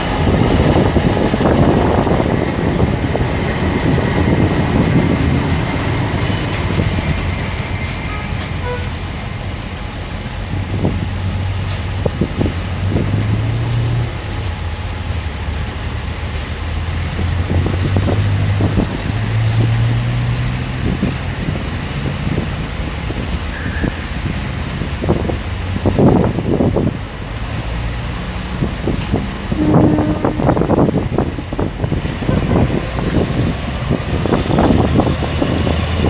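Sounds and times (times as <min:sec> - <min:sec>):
locomotive diesel engine droning: 0:00.0 - 0:36.0.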